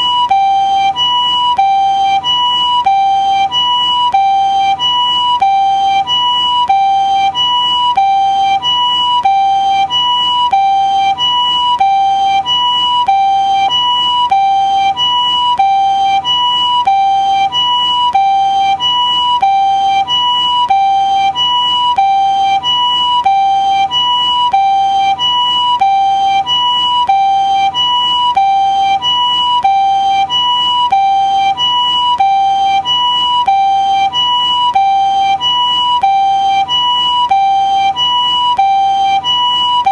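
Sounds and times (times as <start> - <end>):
two-tone ambulance siren: 0.0 - 39.9.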